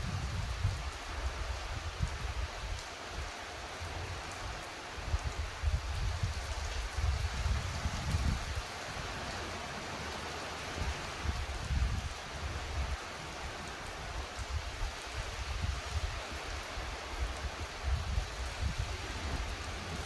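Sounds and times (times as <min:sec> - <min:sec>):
wind buffeting microphone: 0:00.0 - 0:03.3, 0:03.9 - 0:20.0
steady rain: 0:00.0 - 0:20.0.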